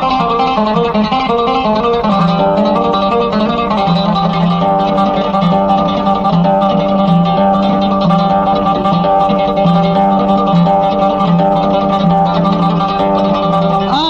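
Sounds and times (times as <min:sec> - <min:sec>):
plucked string instrument melody: 0:00.0 - 0:14.0.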